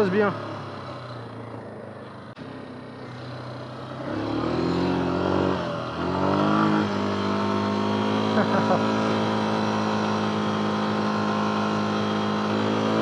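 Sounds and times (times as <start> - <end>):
quad engine revving: 0.0 - 13.0.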